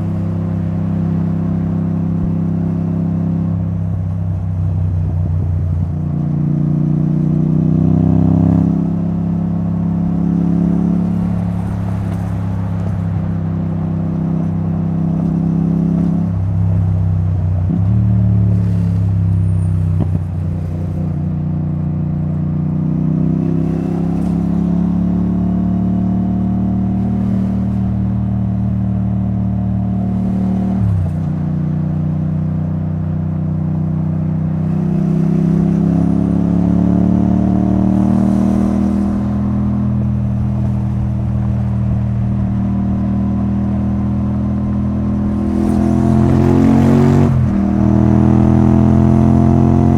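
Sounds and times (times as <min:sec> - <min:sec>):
motorcycle engine at road speed: 0:00.0 - 0:49.9.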